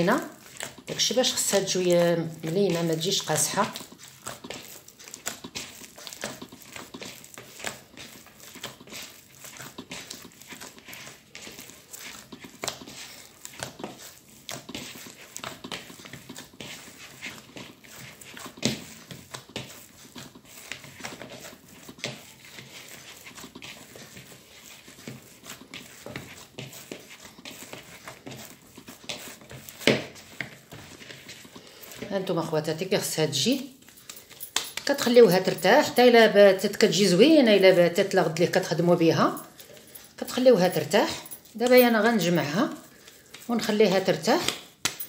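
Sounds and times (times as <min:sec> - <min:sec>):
hands kneading dough: 0:00.0 - 0:45.0.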